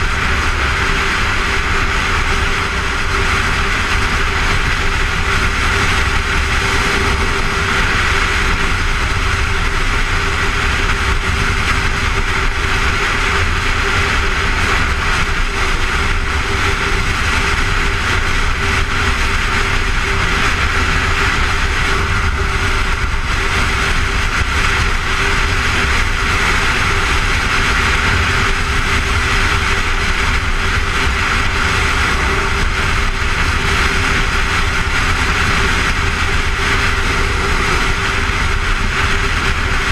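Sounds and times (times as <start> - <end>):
low steady hum: 0.0 - 39.9
motorcycle engine drone: 0.0 - 39.9
wind rush over microphone: 0.0 - 39.9.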